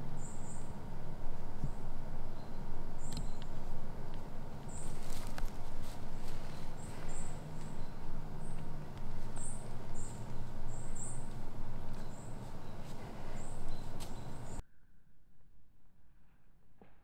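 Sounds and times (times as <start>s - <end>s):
woodland background noise: 0.0s - 14.6s.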